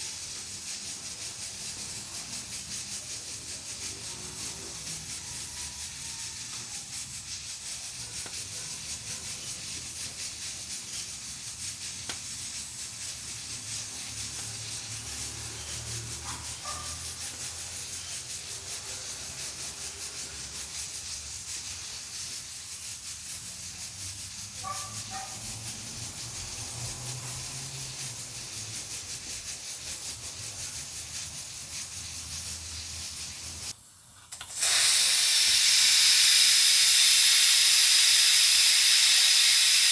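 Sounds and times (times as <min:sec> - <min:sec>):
pressure cooker hissing steam: 0:00.0 - 0:39.9.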